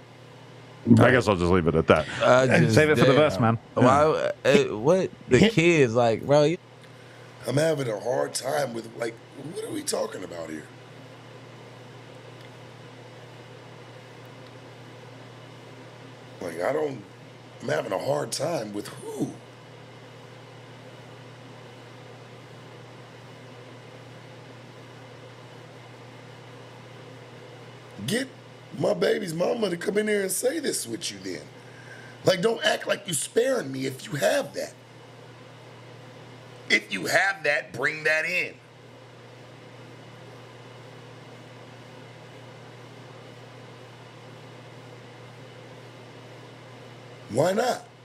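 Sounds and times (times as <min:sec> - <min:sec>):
low hum with hiss: 0:00.0 - 0:48.0.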